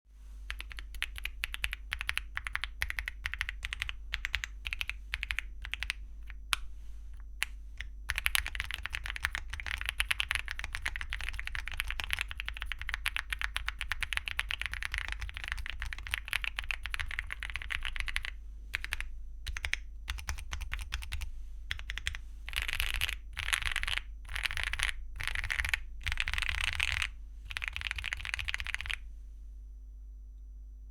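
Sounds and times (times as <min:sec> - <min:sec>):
typing on mechanical keyboard: 0:00.5 - 0:06.6, 0:07.4 - 0:29.0.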